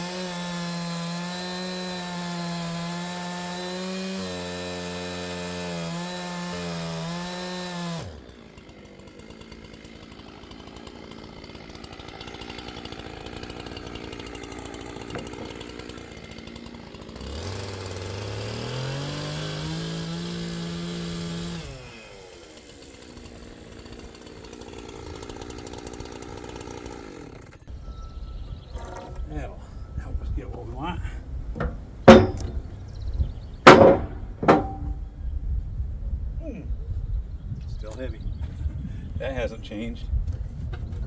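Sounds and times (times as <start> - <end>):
chainsaw revving and idling: 0.0 - 27.9, 28.5 - 34.9.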